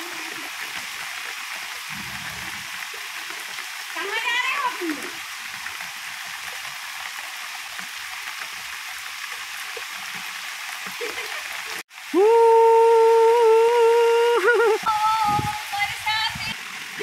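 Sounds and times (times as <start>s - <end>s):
rain on plants and paving: 0.0s - 17.0s.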